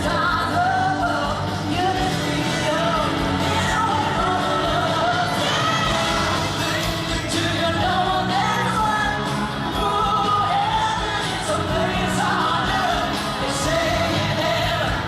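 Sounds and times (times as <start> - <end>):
live pop-rock band: 0.0 - 15.0
woman singing lead vocal: 0.0 - 15.0.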